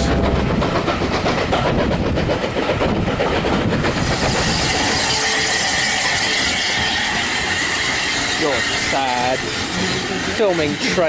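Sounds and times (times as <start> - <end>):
steam locomotive hiss: 0.0 - 11.0
train wheel clatter: 0.0 - 11.0.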